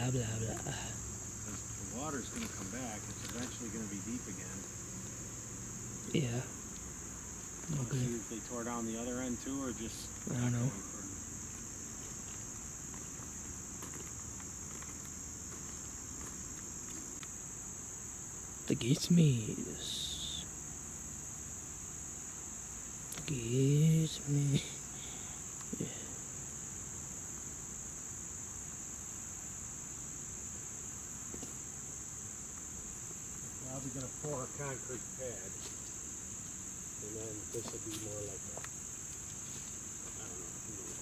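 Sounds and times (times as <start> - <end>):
crickets chirping: 0.0 - 41.0
insects droning: 0.0 - 41.0.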